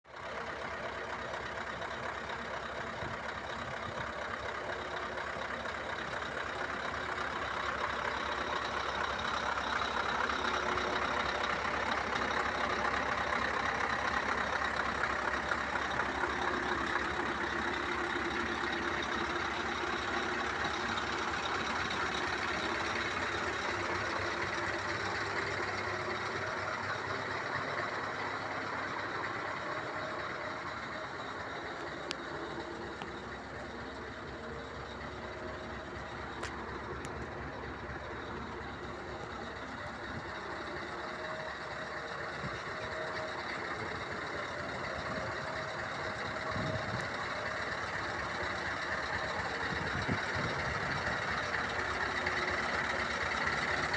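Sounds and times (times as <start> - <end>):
truck diesel engine running: 0.1 - 53.9.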